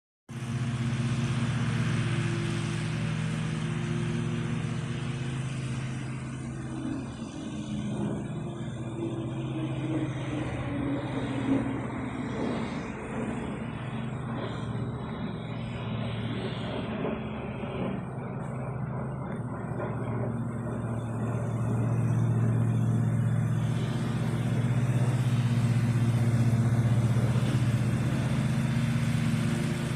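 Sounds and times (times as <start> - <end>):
jet engine droning hum: 0.3 - 29.9.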